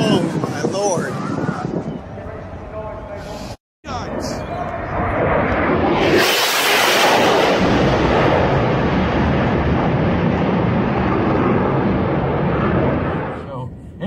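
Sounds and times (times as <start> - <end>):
fighter jet engine roar: 0.0 - 14.0.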